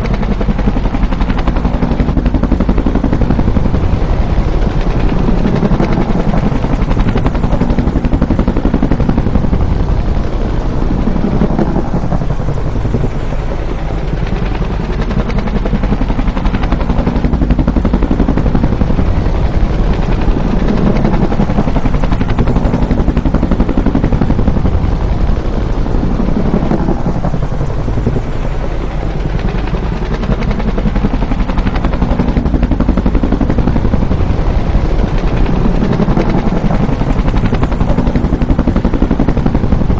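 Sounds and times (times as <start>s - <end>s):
helicopter rotor blade slap: 0.0s - 39.9s
helicopter turbine whine: 0.0s - 39.9s.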